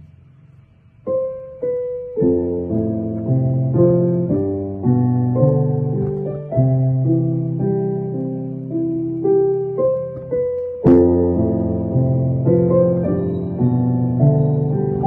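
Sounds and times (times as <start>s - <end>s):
piano music: 1.0s - 15.0s.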